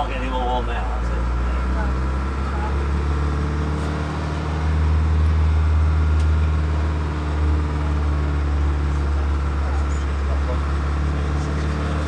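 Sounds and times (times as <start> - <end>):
minibus engine humming: 0.0 - 12.0.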